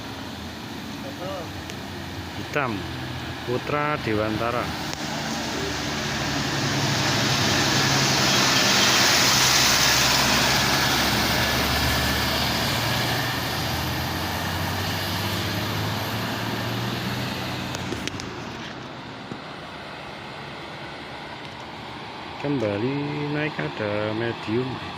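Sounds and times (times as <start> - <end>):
bus diesel engine labouring: 0.0 - 24.9.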